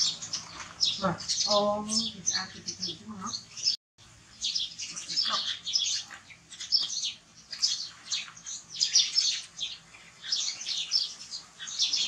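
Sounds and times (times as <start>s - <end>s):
rapid high-pitched chirping calls: 0.0s - 12.0s.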